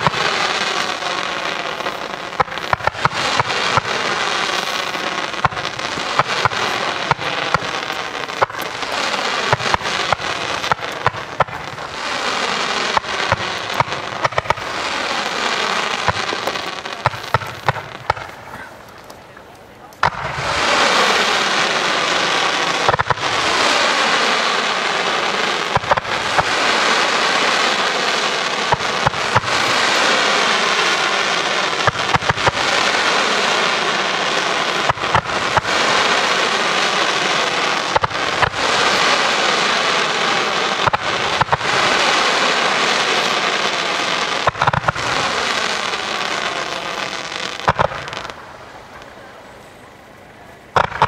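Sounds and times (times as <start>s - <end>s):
fireworks hissing crackle: 0.0s - 51.0s
fireworks launch bangs: 0.0s - 51.0s.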